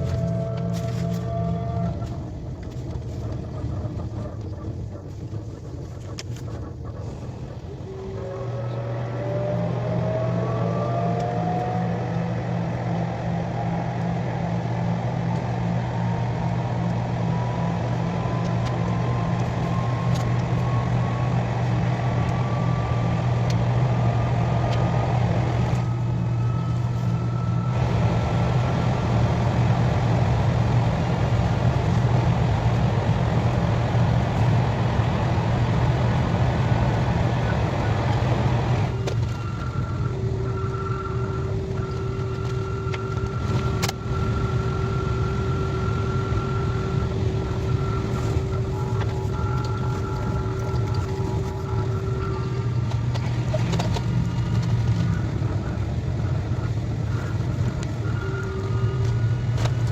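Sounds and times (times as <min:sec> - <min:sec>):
train running heard from inside: 0:00.0 - 0:10.2, 0:11.2 - 0:59.9
thin whine rising in pitch: 0:00.0 - 0:59.9.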